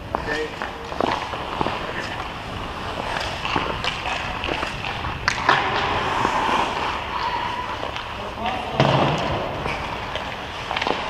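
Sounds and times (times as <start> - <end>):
hockey sticks and pucks knocking: 0.0 - 11.0
skate blades scraping on ice: 0.0 - 11.0
sharp crack: 1.0 - 11.0.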